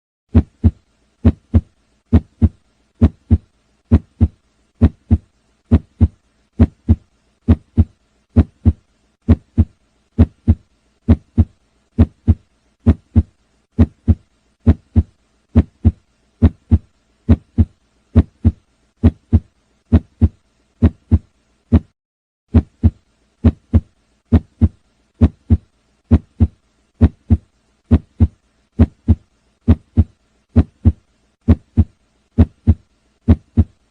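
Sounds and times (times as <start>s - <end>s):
heartbeat lub-dub: 0.3s - 33.9s.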